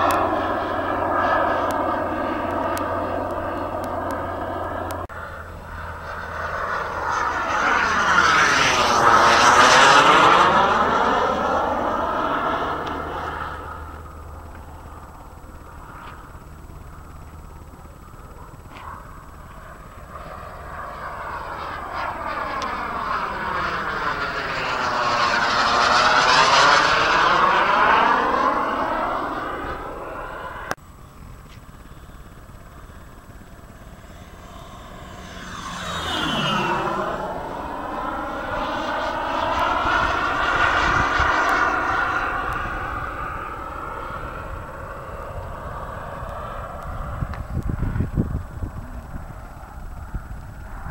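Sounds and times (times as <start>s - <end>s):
model jet flying past: 0.0s - 50.9s.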